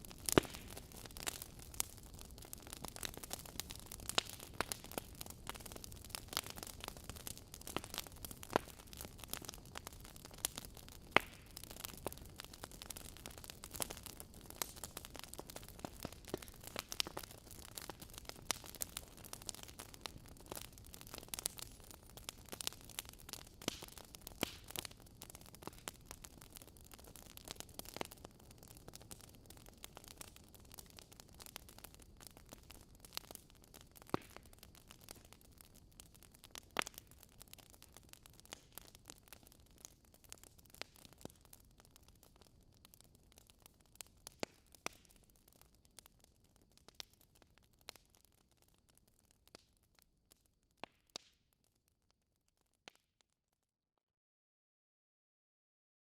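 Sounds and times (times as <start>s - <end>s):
logs crackling and popping: 0.0s - 53.1s.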